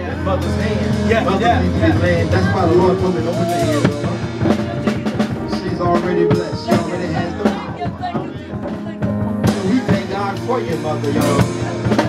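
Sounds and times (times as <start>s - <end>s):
drum kit steady beat: 0.0s - 12.0s
held keyboard chords: 0.0s - 12.0s.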